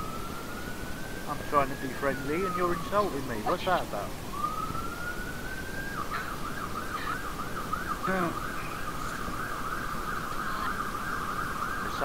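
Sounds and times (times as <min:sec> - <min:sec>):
emergency vehicle siren: 0:00.0 - 0:12.0.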